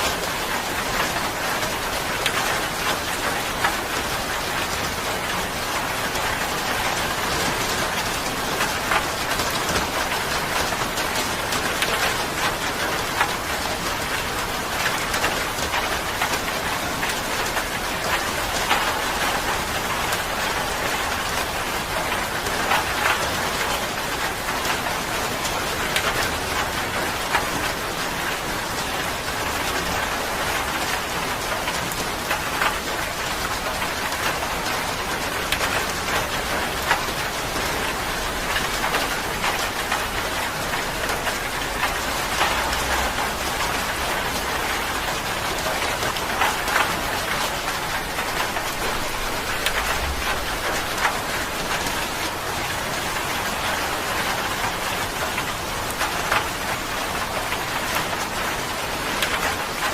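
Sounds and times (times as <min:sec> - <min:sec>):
rain falling: 0:00.0 - 0:59.9
raindrops ticking on a surface: 0:00.0 - 0:59.9.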